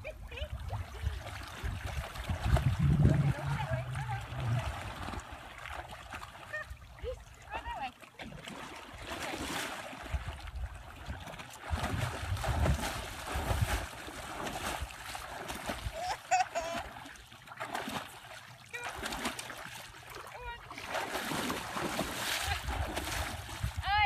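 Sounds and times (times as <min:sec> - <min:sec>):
water splashing and churning: 0:00.0 - 0:24.0.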